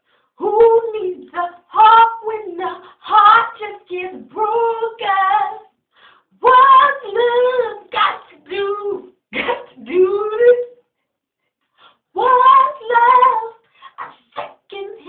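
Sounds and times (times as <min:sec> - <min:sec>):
person singing unaccompanied: 0:00.4 - 0:05.7, 0:06.4 - 0:10.8, 0:12.1 - 0:15.0.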